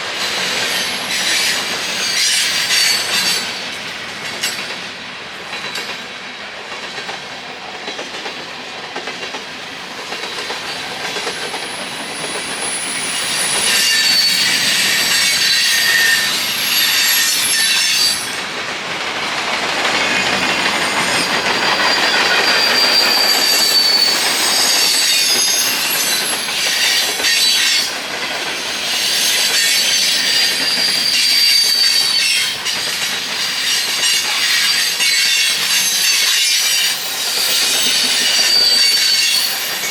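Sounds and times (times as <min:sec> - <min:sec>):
train wheels squealing: 0:00.0 - 0:04.9, 0:10.0 - 0:18.5, 0:19.9 - 0:39.9
train rumble and clatter: 0:00.0 - 0:39.9.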